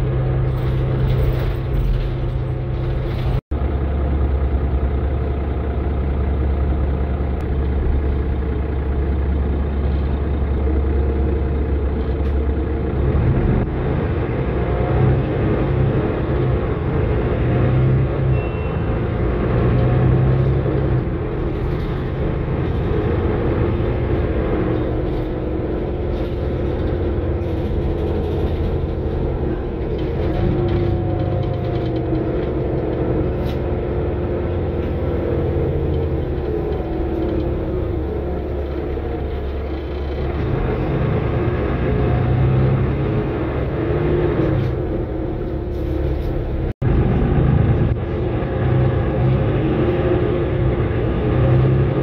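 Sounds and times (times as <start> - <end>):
bus engine accelerating: 0.0 - 52.0
road rumble: 0.0 - 52.0.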